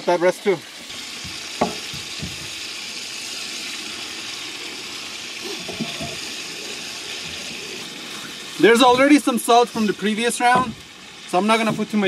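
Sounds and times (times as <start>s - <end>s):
skillet sizzling: 0.0s - 12.0s.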